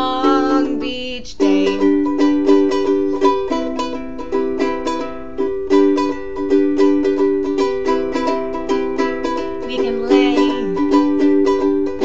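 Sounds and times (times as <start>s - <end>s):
ukulele strumming chords: 0.0s - 12.0s.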